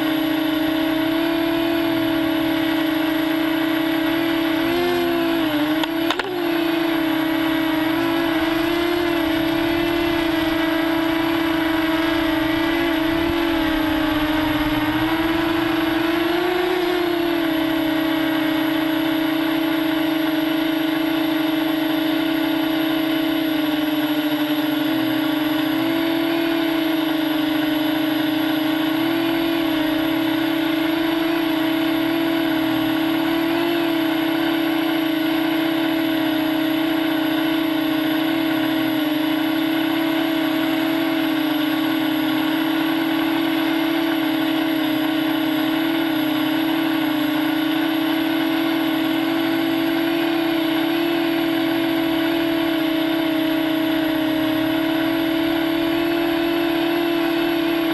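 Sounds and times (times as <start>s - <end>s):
drone propellers whining: 0.0s - 57.9s.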